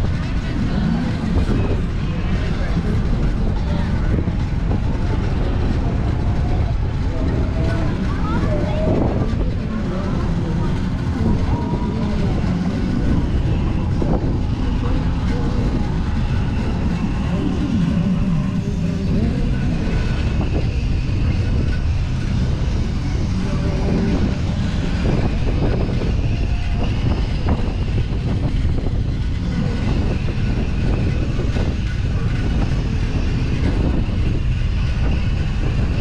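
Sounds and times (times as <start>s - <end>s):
faint voices of passers-by: 0.0s - 36.0s
wind rumble on microphone: 0.0s - 36.0s.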